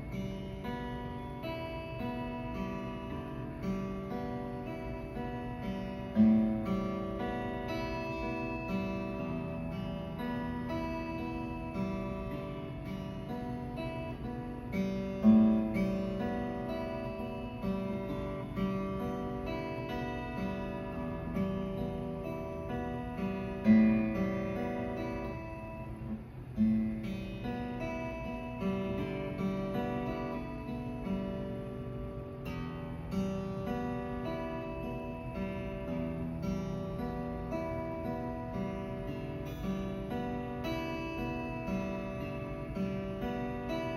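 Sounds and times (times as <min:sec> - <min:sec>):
acoustic guitar playing: 0:00.0 - 0:43.9.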